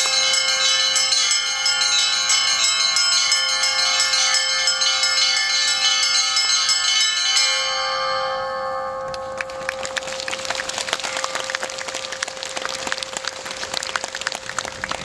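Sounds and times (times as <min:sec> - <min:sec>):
small bells striking: 0:00.0 - 0:13.2
large bell hum: 0:00.0 - 0:15.0.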